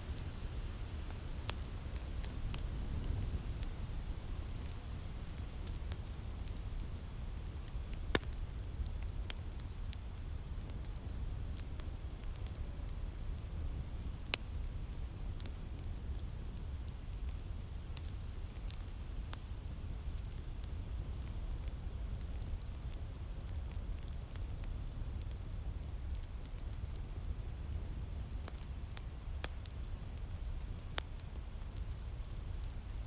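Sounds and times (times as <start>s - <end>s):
low rumble of wind: 0.0s - 33.0s
wood fire crackling and popping: 0.0s - 33.0s.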